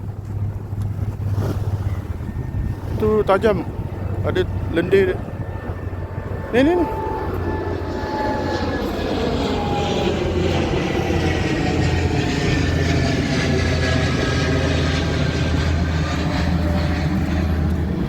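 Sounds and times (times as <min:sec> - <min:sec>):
jet aircraft roaring overhead: 0:00.0 - 0:18.0.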